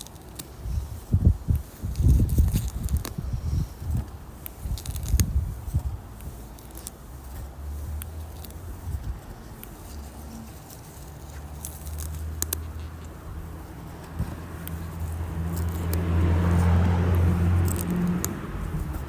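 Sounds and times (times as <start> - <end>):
small clicks and crackles: 0.0 - 19.0
vehicle engine hum: 0.1 - 19.0.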